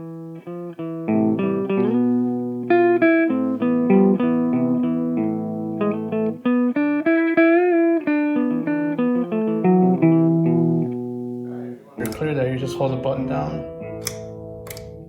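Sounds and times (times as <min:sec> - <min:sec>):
clean electric guitar riff: 0:00.0 - 0:15.0.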